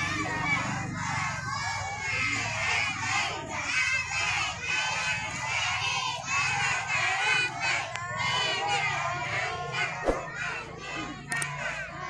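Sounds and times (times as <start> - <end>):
children calling and shouting: 0.0 - 12.0.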